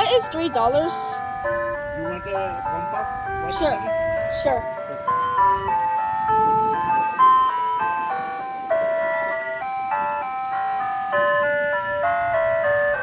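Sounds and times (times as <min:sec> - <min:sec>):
ice cream truck chime tune: 0:00.0 - 0:13.0.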